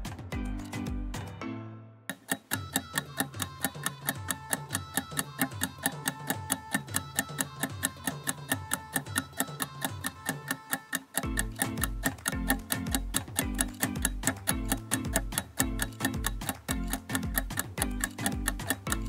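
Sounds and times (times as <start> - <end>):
background music: 0.0 - 19.0
clock-like timer ticking: 2.1 - 19.0.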